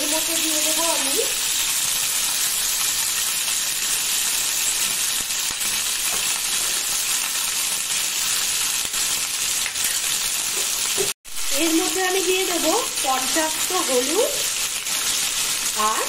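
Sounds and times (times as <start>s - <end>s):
crabs sizzling in a pan: 0.0s - 16.0s.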